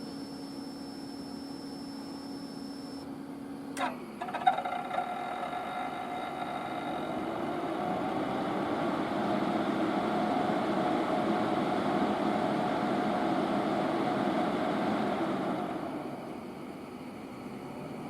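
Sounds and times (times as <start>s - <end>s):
fan whirring: 0.0s - 18.0s.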